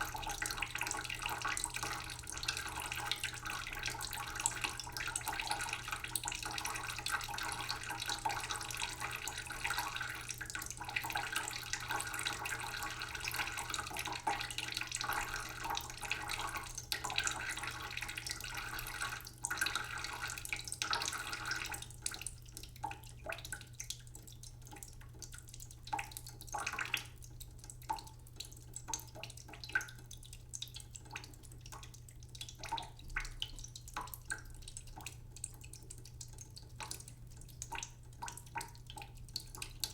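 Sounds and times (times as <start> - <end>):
drips and splashes into a pot: 0.0 - 39.9
tap water running into a pot: 0.0 - 39.9.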